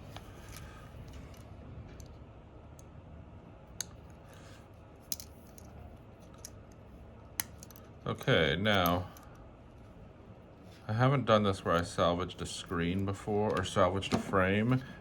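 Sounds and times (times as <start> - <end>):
faint steady background: 0.0 - 15.0.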